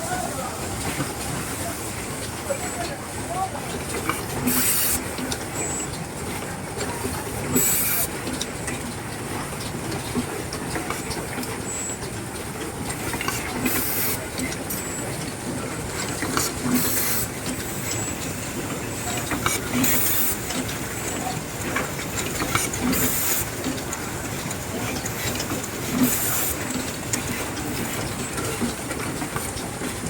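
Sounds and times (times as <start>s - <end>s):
steady machine noise: 0.0s - 30.0s.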